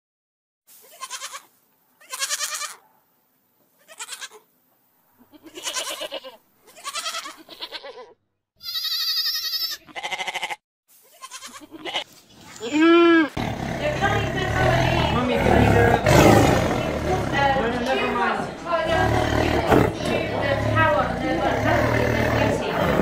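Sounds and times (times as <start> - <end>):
goat bleating: 0.8 - 2.8, 3.8 - 4.5, 5.2 - 23.0.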